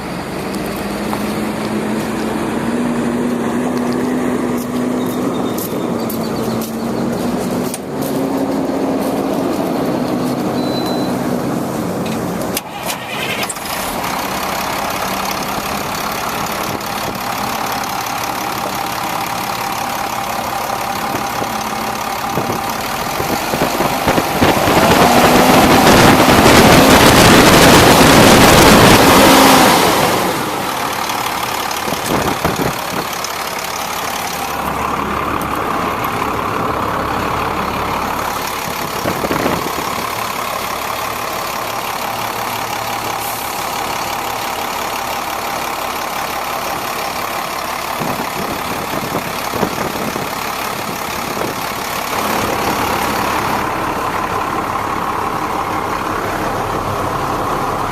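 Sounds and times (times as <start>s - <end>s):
diesel truck engine idling and revving: 0.0s - 57.9s.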